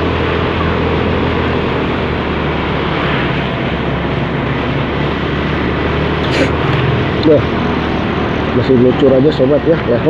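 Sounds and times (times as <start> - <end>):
motorcycle engine running: 0.0 - 10.0
road and wind noise: 0.0 - 10.0.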